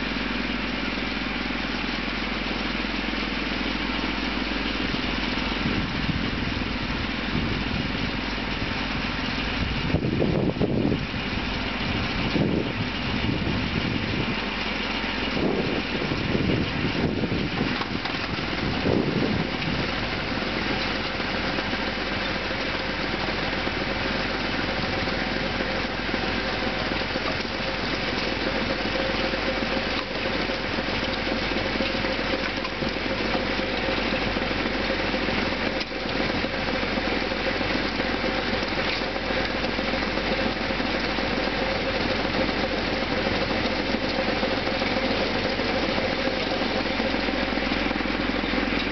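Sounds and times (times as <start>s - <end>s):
snowblower: 0.0s - 48.9s
tractor diesel engine running: 0.0s - 48.9s.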